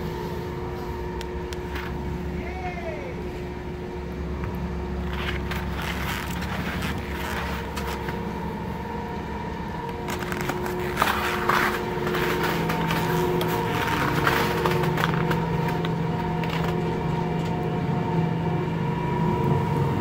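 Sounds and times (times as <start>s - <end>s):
chairlift machinery humming: 0.0s - 20.0s.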